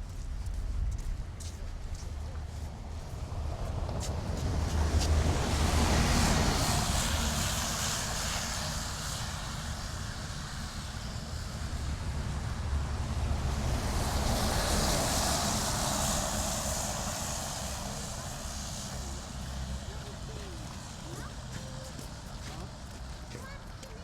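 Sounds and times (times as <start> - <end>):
passing vehicles: 2.1 - 24.0.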